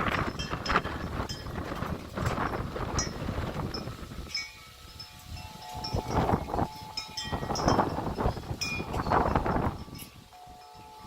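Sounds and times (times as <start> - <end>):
gusting wind on microphone: 0.0 - 11.0.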